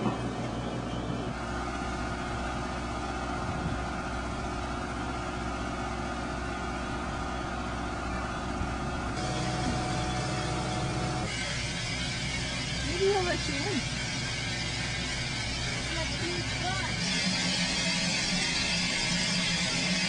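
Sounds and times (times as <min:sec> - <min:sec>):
train engine hum: 0:00.0 - 0:20.0.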